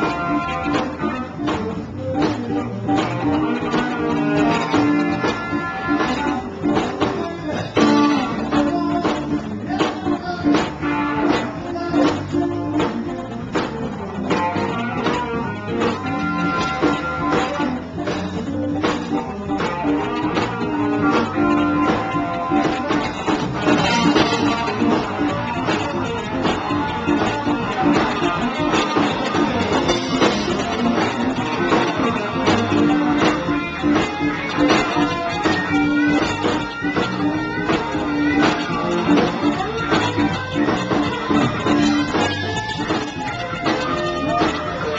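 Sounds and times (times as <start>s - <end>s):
drum kit with cymbals: 0.0s - 44.9s
electric guitars: 0.0s - 44.9s.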